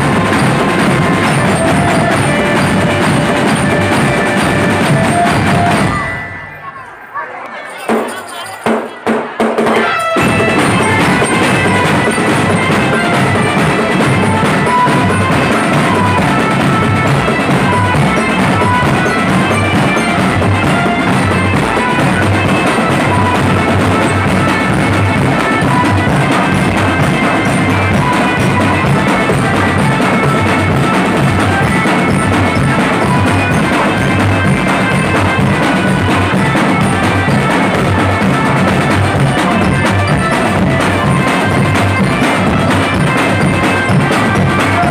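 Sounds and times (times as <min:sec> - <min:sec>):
marching drum band playing: 0:00.0 - 0:06.2, 0:07.9 - 0:44.9.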